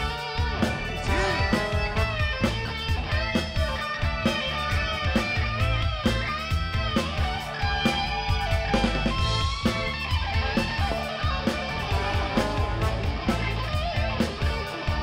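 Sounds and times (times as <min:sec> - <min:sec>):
bass: 0:00.0 - 0:15.0
drum beat: 0:00.0 - 0:15.0
electric guitar: 0:00.0 - 0:15.0.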